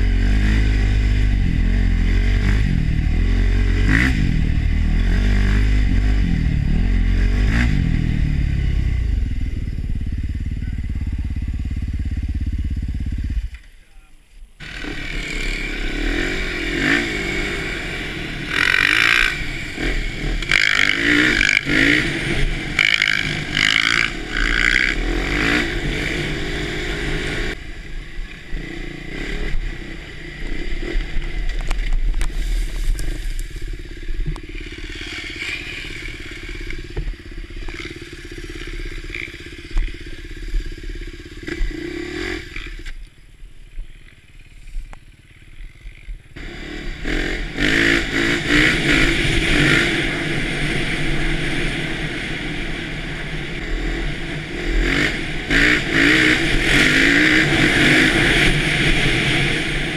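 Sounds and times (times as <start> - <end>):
motorcycle engine revving: 0.0 - 13.7, 14.6 - 59.9.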